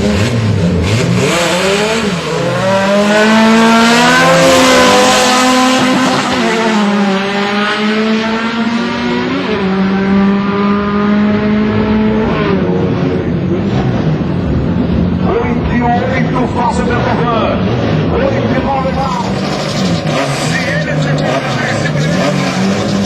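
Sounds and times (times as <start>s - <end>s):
racing car engine at full throttle: 0.0s - 23.0s.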